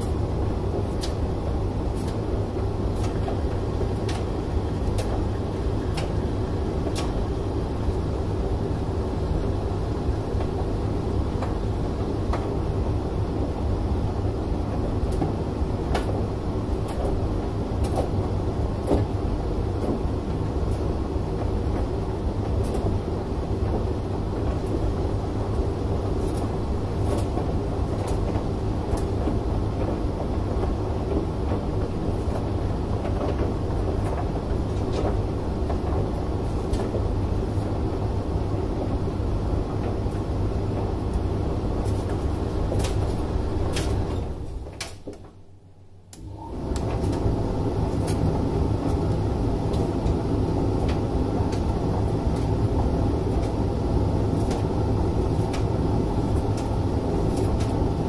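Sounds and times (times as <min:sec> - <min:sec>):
dryer drum motor and fan: 0:00.0 - 0:58.0.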